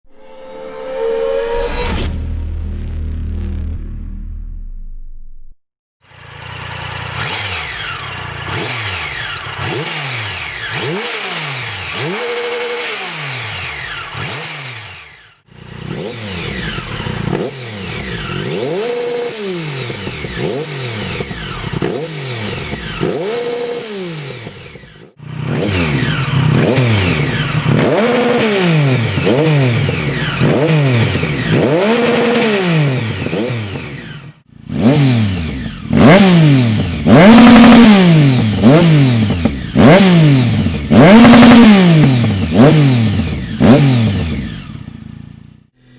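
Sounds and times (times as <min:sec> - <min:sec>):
motorcycle engine revving: 0:06.0 - 0:45.9.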